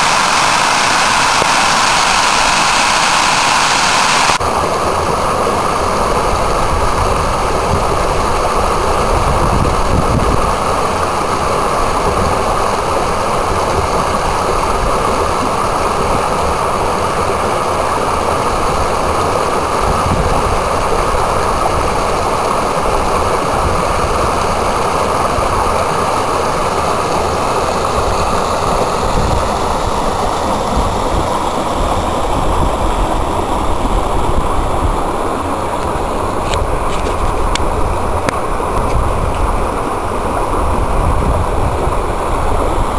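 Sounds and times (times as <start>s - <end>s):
water rushing over rocks: 0.0s - 42.9s.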